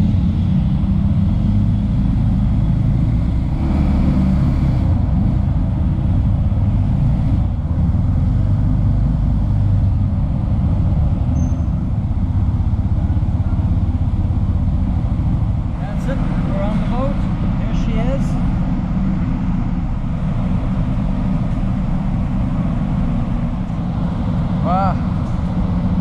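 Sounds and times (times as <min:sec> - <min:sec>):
vehicle engines rumbling: 0:00.0 - 0:26.0.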